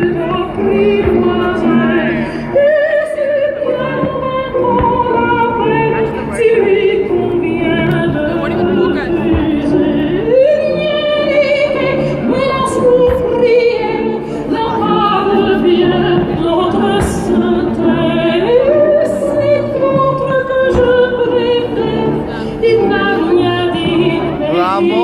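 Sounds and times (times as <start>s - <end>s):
operatic singing: 0.0s - 25.0s.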